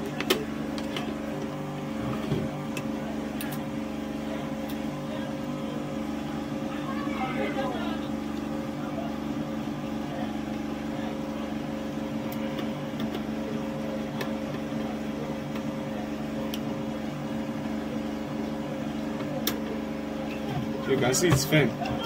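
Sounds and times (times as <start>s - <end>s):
power generator humming: 0.0s - 22.0s.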